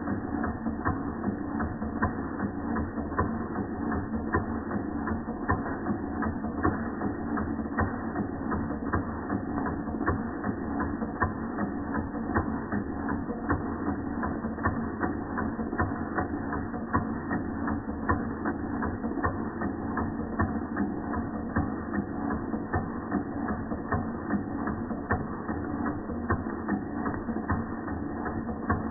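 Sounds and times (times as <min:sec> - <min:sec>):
model steam engine clicking: 0:00.2 - 0:28.9.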